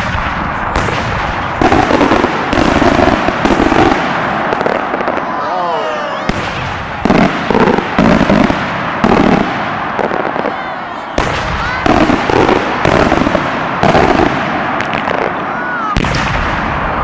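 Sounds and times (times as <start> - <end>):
firework shells booming: 0.0 - 17.0.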